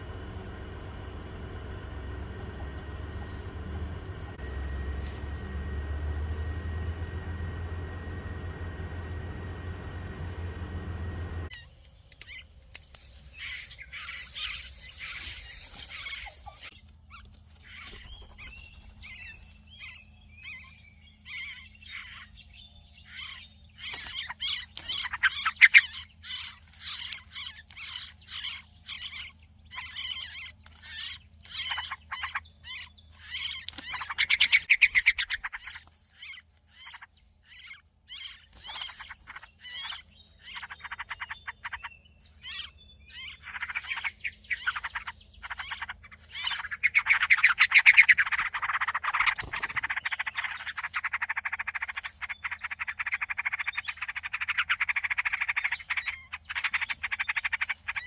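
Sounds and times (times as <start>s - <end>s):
nestling birds begging calls: 0.0s - 58.0s.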